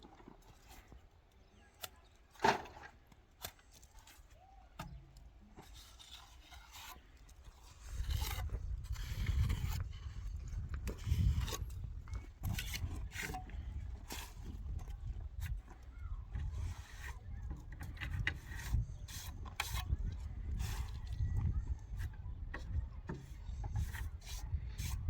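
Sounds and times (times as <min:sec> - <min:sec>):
knocks and scrapes: 0:00.0 - 0:01.1, 0:01.8 - 0:25.0.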